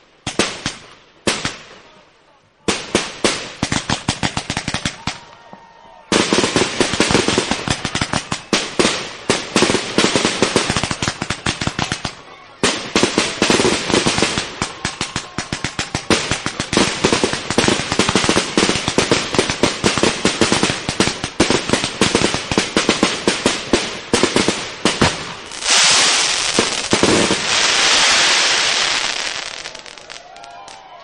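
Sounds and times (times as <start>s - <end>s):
fireworks bangs: 2.6s - 5.3s, 6.1s - 31.0s.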